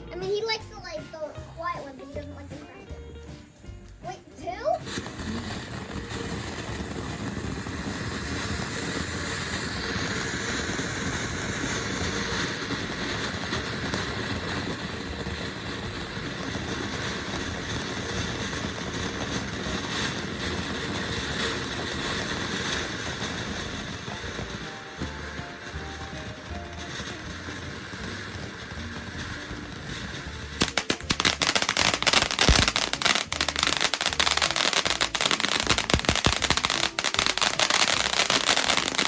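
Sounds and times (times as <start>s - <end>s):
firework fountain hissing and crackling: 0.0s - 39.0s.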